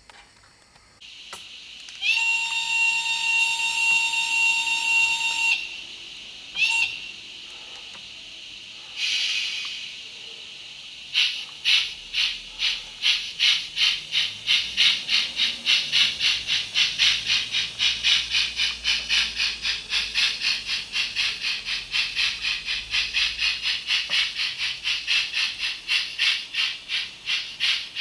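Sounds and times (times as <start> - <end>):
model steam locomotive chuffing: 1.4 - 28.0.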